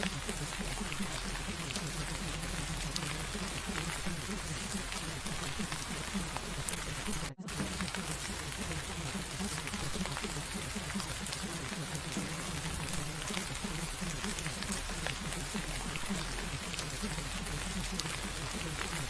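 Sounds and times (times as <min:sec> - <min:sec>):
rain patter: 0:00.0 - 0:19.0.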